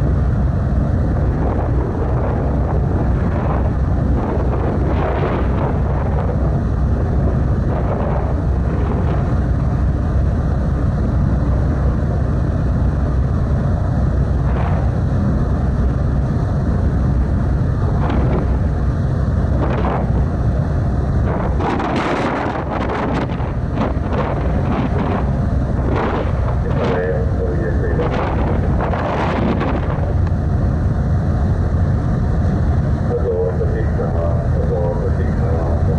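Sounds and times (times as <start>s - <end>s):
ferry engine low rumble: 0.0s - 35.9s
wind buffeting microphone: 0.0s - 35.9s.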